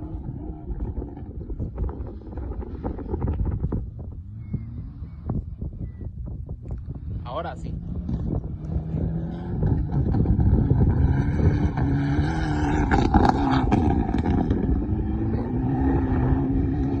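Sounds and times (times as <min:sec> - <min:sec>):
rally car engine running: 0:00.0 - 0:17.0.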